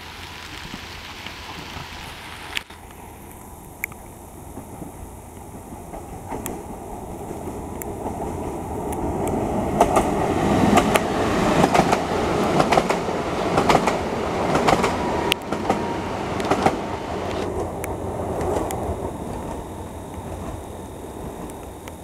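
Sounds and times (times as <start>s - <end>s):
train rumble: 0.0s - 22.0s
train wheels clicking on rail joints: 0.1s - 22.0s.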